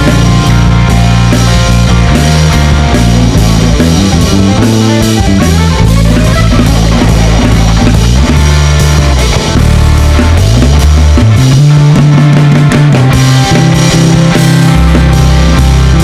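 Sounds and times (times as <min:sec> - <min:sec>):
drum kit: 0:00.0 - 0:16.0
electric bass: 0:00.0 - 0:16.0
electric guitar: 0:00.0 - 0:16.0.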